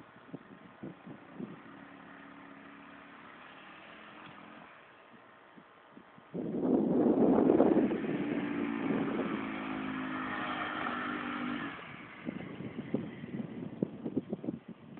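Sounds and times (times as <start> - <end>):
quad bike engine passing: 0.8 - 5.2, 6.6 - 14.4.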